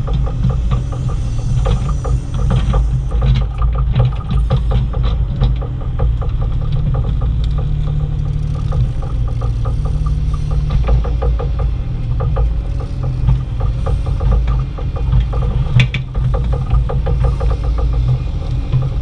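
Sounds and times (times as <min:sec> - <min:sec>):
excavator diesel engine running: 0:00.0 - 0:19.0
rattling and clicking: 0:00.0 - 0:19.0.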